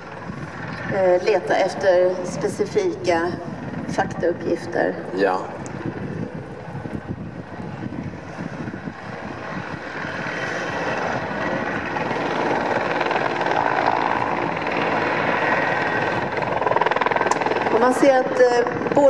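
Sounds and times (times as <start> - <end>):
helicopter rotor beating: 0.0 - 19.0
turbine engine whine: 0.0 - 19.0.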